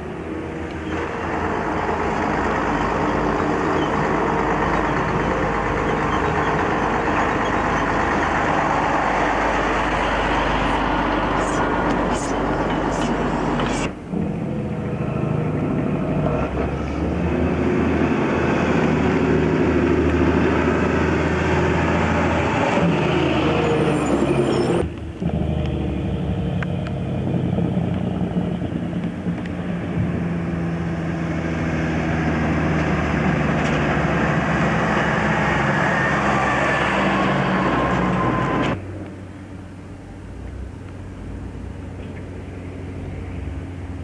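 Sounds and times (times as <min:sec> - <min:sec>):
diesel trucks passing: 0:00.0 - 0:44.0.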